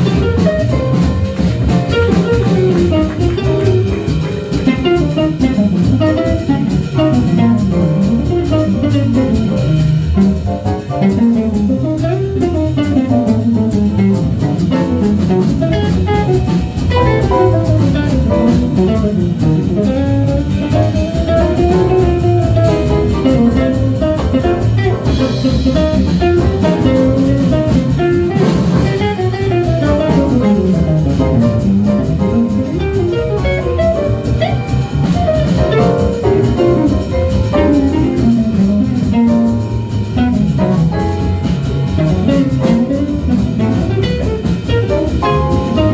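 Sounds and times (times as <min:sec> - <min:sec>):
bass: 0:00.0 - 0:45.9
drum kit: 0:00.0 - 0:45.9.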